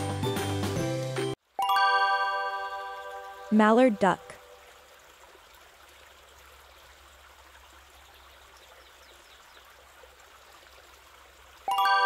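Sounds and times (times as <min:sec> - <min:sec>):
water trickling: 0:01.6 - 0:12.0.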